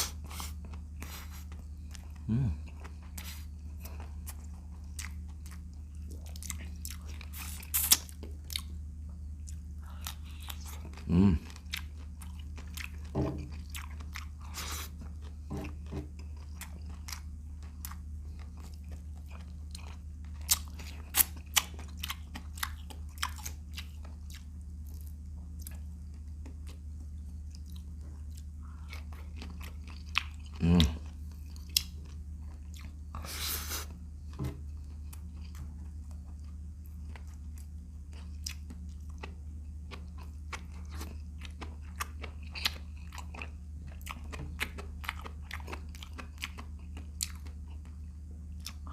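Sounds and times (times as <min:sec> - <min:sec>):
chewing shrimp shells crunching: 0:00.0 - 0:33.3, 0:33.9 - 0:48.9
steady low hum: 0:00.0 - 0:48.9.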